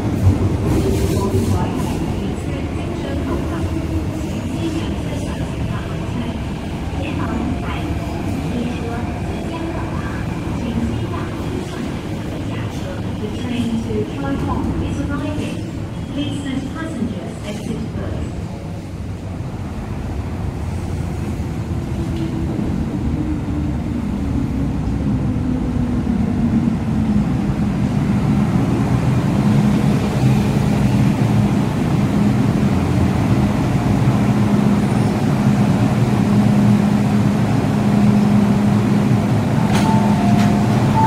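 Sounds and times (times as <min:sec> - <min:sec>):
train rumbling into station: 0:00.0 - 0:41.0.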